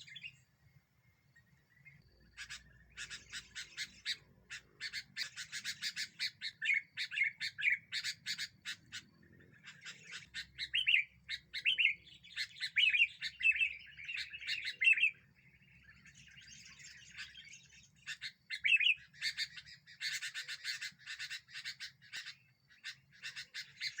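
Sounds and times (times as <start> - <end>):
birds chirping and chattering: 0.0 - 24.0.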